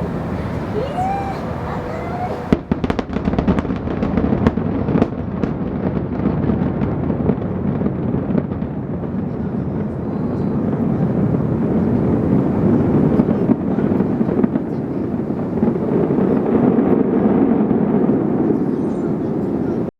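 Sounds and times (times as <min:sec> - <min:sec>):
faint fireworks crackles: 0:00.0 - 0:19.9
fireworks booming: 0:00.0 - 0:19.9.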